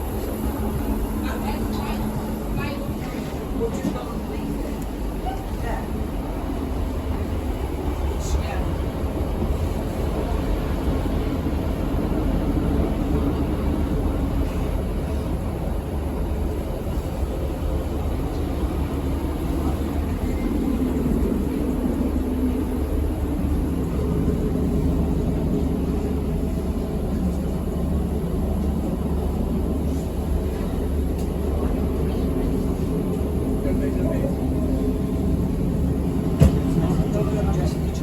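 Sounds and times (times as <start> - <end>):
train rumbling: 0.0 - 38.0.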